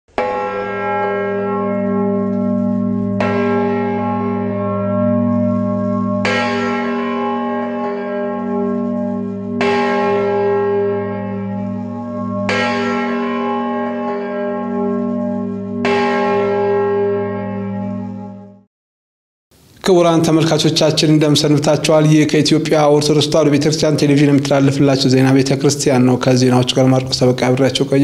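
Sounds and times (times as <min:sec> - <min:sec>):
large church bell tolling: 0:00.1 - 0:18.7, 0:20.2 - 0:28.0.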